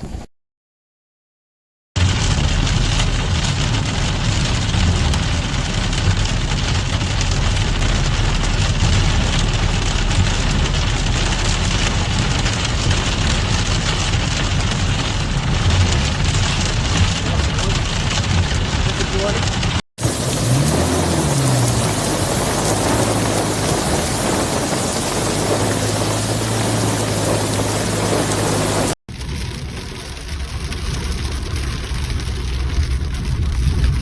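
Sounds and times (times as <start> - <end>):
heavy rain falling: 2.0 - 34.0
low rumble: 2.0 - 34.0.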